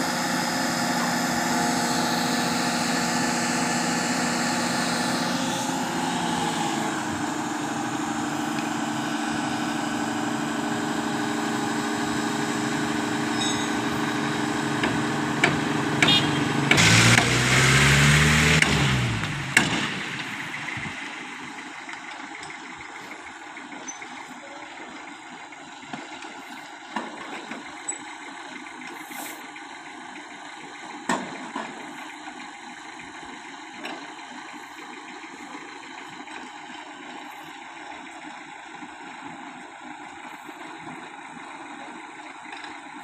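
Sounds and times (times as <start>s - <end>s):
diesel engine humming: 0.0s - 43.0s.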